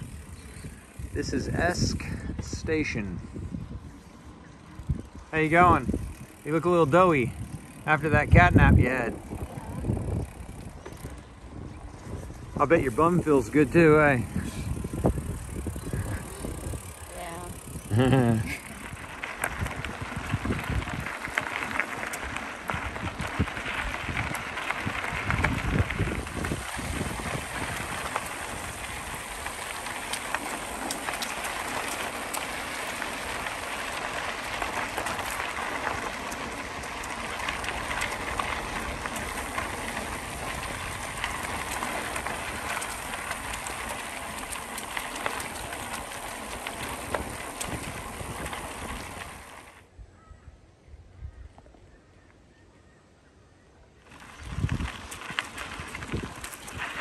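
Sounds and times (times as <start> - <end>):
wind on microphone: 0.0 - 6.4, 7.1 - 30.5, 33.1 - 50.4, 54.2 - 57.0
bicycle tyres rolling: 0.0 - 49.9, 54.0 - 57.0.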